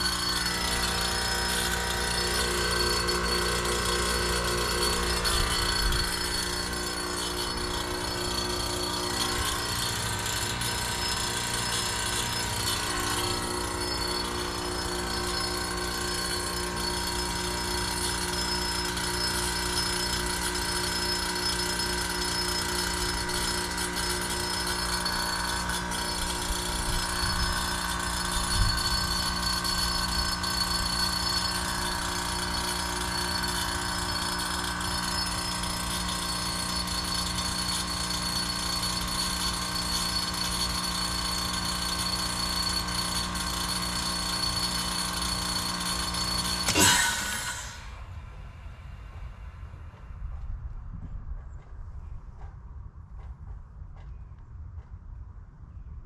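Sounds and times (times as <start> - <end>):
heat pump compressor hum: 0.0 - 52.9.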